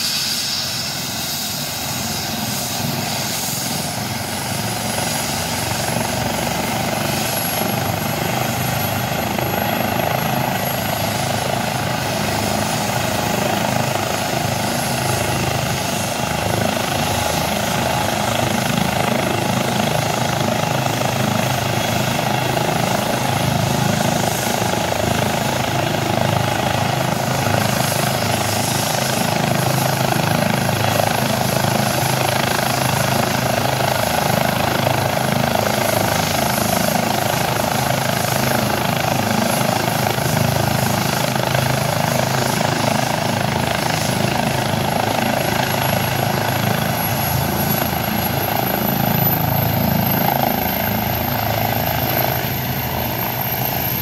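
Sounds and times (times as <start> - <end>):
helicopter turbine and rotor: 0.0 - 54.0.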